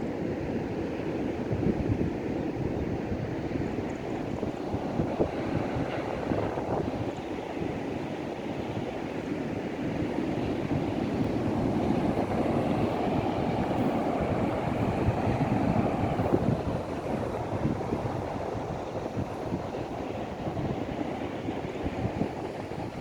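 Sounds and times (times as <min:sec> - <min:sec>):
wind rumbling on microphone: 0:00.0 - 0:23.0
ocean surf washing onto beach: 0:03.0 - 0:23.0.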